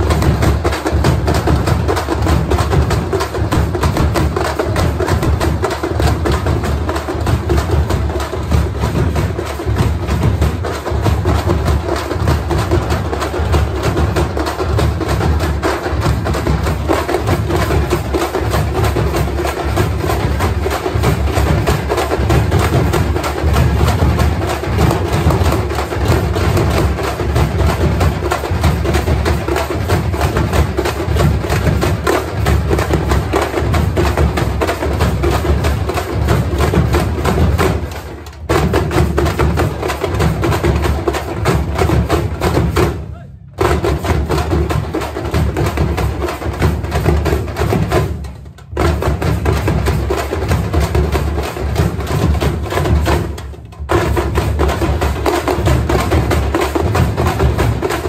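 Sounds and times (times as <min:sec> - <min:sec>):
frame drums beaten with sticks: 0:00.0 - 0:58.0.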